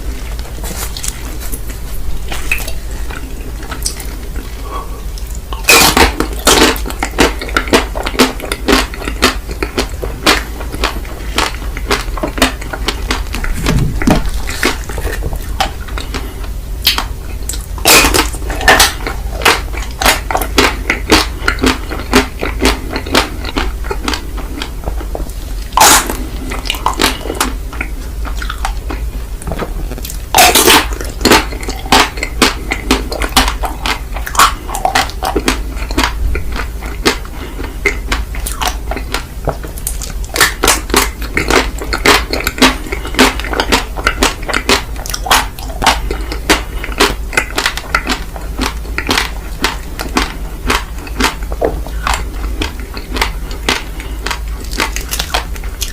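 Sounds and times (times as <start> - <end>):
ice cream crunching and chewing: 0.0 - 55.9
steady low hum: 0.0 - 55.9.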